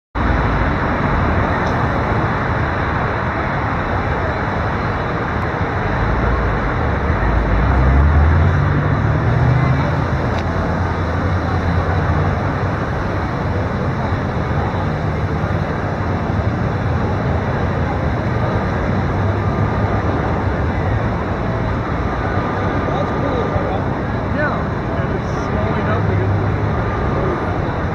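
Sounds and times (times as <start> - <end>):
road traffic hum: 0.2 - 27.9
vehicle engine passing: 0.2 - 27.9.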